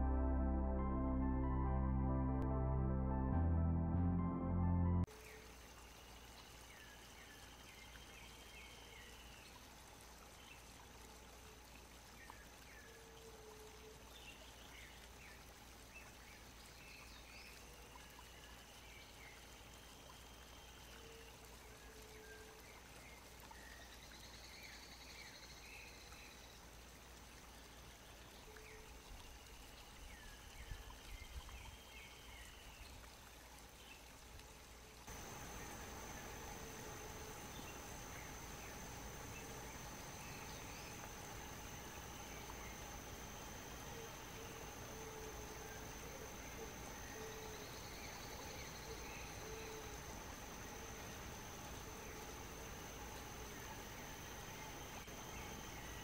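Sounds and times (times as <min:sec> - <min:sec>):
soft water-like hiss: 0:05.1 - 0:56.0.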